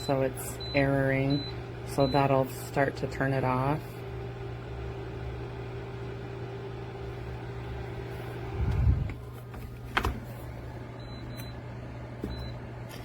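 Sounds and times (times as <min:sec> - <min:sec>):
heater fan humming: 0:00.0 - 0:13.0.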